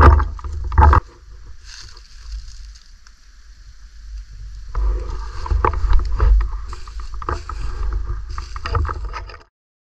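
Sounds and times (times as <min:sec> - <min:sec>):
crunching of dry leaves and snow: 0:00.0 - 0:09.5
low rumble on microphone: 0:00.0 - 0:09.5.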